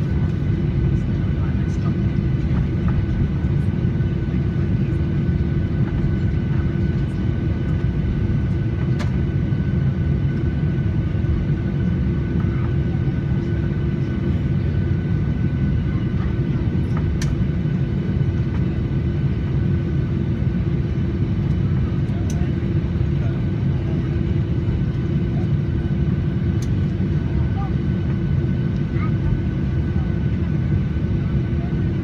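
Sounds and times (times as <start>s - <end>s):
airliner cabin low rumble: 0.0s - 32.0s.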